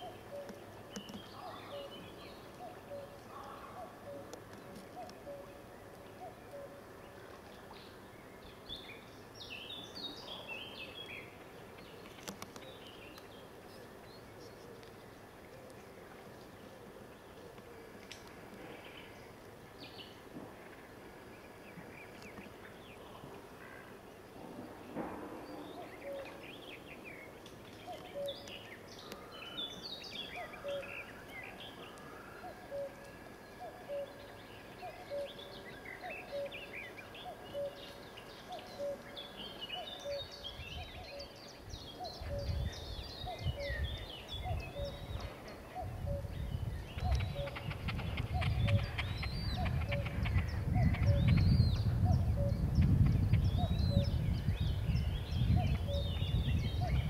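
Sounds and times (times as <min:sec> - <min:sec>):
birds singing and chirping: 0:00.0 - 0:20.3, 0:24.8 - 0:57.0.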